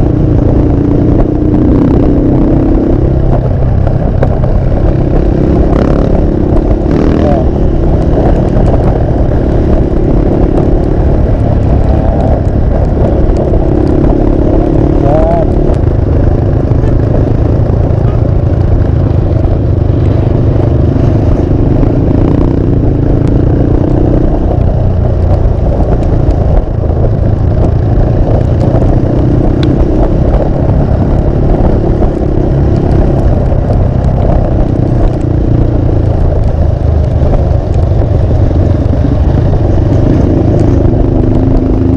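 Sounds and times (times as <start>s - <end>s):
motorcycle engine: 0.0s - 41.9s
wind rushing on microphone: 0.0s - 41.9s.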